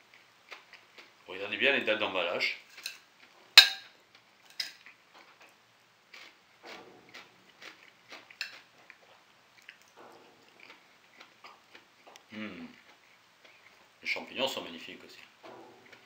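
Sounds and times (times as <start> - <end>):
faint chewing: 0.0 - 1.5, 2.4 - 16.0.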